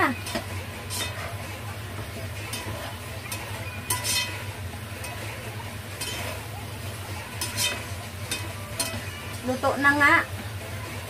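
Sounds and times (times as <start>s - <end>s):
utensil clinking and scraping pot: 0.0s - 11.0s.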